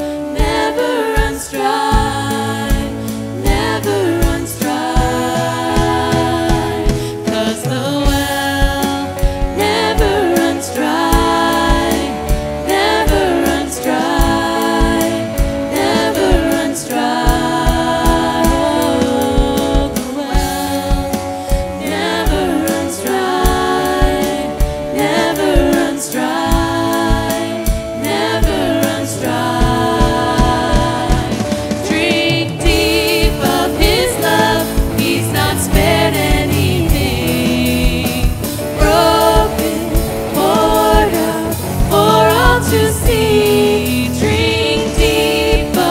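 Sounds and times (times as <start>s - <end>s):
band playing: 0.0s - 45.9s
people singing: 0.0s - 45.9s.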